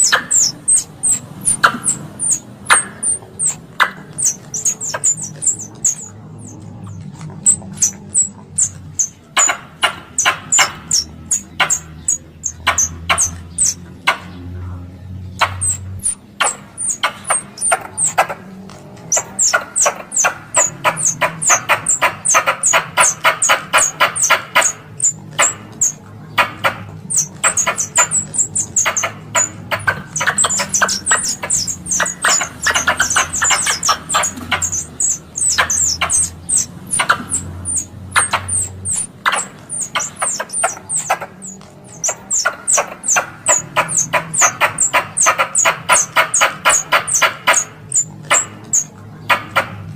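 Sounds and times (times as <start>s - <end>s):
squirrel chattering and chirping: 0.0s - 49.9s.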